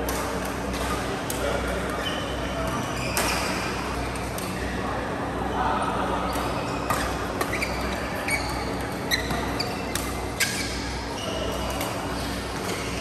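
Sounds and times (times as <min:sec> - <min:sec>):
court shoes squeaking: 0:00.0 - 0:04.8, 0:06.3 - 0:13.0.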